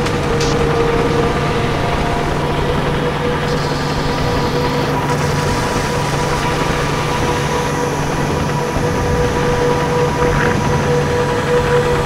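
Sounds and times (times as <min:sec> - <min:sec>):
dark ambient drone: 0:00.0 - 0:12.0.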